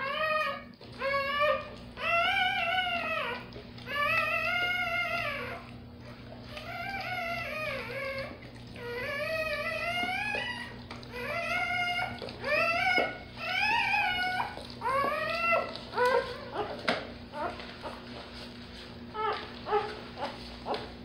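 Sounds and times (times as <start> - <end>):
puppy squealing: 0.0 - 18.2, 19.1 - 20.8.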